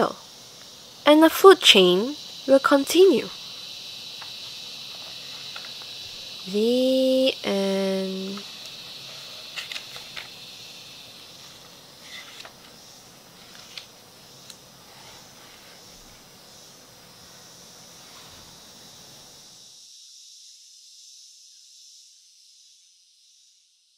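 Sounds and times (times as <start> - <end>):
low background hiss: 0.0 - 23.1
high-pitched insect chorus: 0.0 - 23.9.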